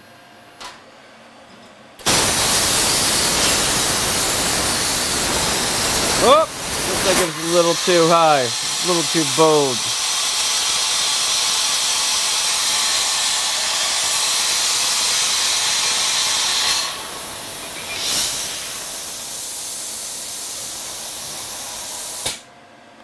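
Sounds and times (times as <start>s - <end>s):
plasma cutter torch hissing: 2.0s - 22.4s.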